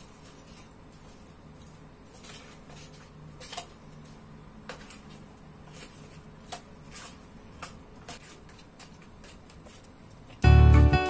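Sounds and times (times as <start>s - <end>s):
wooden spoon stirring in pot: 0.0s - 10.0s.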